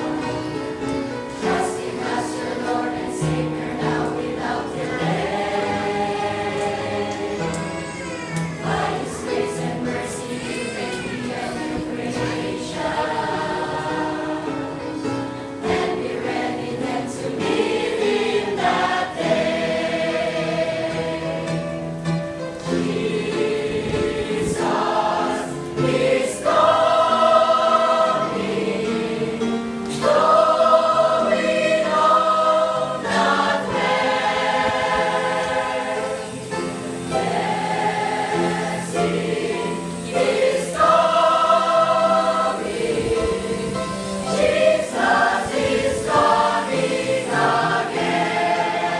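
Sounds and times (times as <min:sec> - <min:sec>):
choir singing a hymn: 0:00.0 - 0:48.9.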